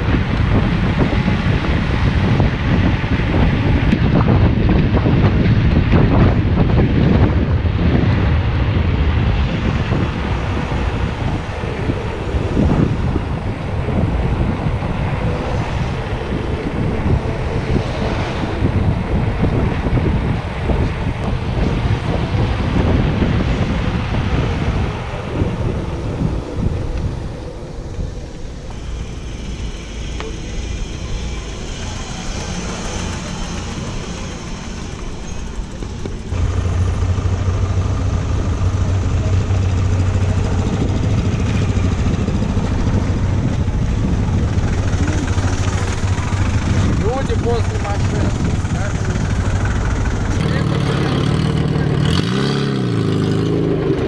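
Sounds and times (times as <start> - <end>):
road traffic noise: 0.0 - 54.0
wind buffeting microphone: 0.0 - 54.0.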